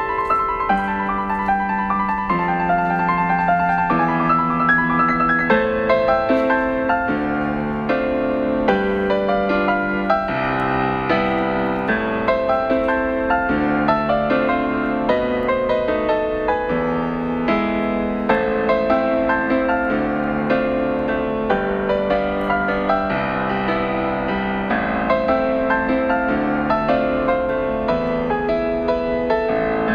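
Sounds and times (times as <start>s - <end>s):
gentle piano tune: 0.0s - 29.9s.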